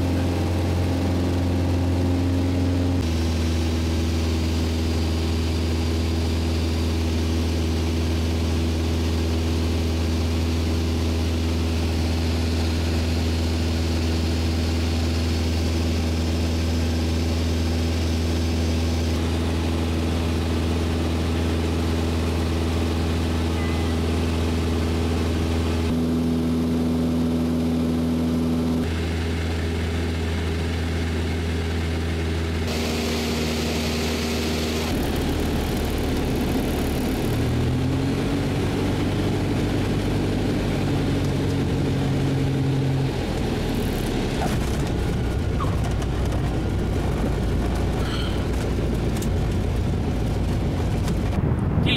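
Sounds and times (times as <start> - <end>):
aircraft engine and propeller drone: 0.0 - 51.9.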